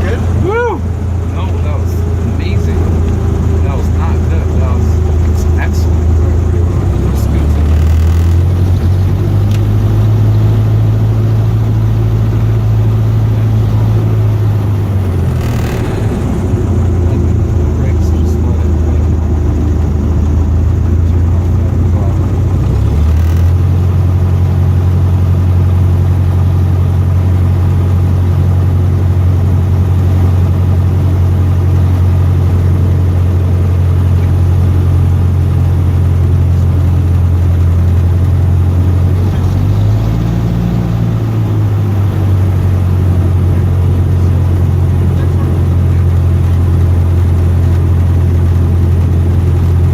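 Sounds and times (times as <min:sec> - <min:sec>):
airplane engine and propeller droning: 0:00.0 - 0:49.9.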